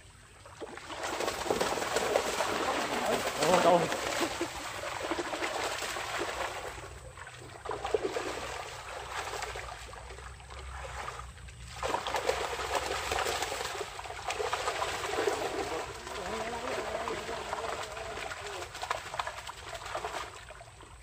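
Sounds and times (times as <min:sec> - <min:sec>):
pond water splashing: 0:00.0 - 0:21.0.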